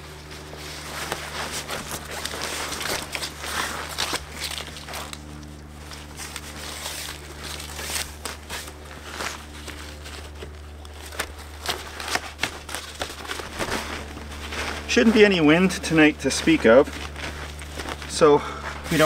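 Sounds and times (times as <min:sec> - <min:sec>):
steady low hum: 0:00.0 - 0:19.0
tent panels rustling and crinkling: 0:00.0 - 0:19.0.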